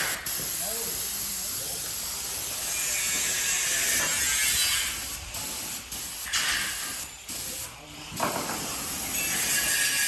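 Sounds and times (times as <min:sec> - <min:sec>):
hissing spray: 0:00.0 - 0:10.0.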